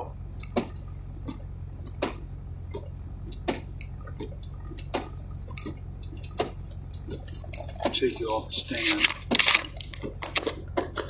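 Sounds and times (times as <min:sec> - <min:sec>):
idling vehicle hum: 0:00.0 - 0:11.0
sharp taps and clicks: 0:00.4 - 0:11.0.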